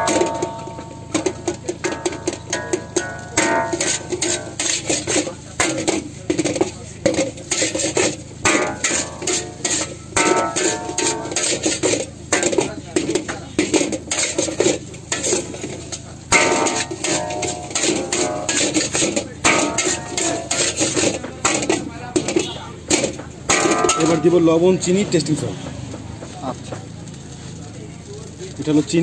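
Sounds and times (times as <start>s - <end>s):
metal spatula scraping a wok: 0.0s - 25.9s.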